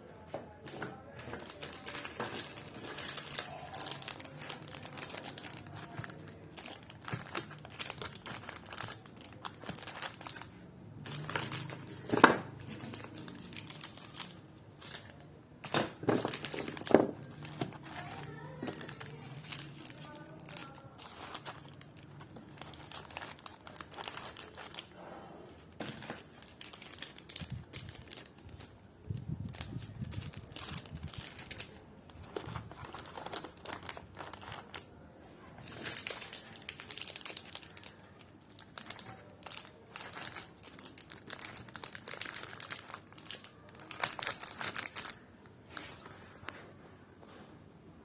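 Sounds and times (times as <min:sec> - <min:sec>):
wrapping material crinkling: 0:00.7 - 0:25.0, 0:25.8 - 0:46.7.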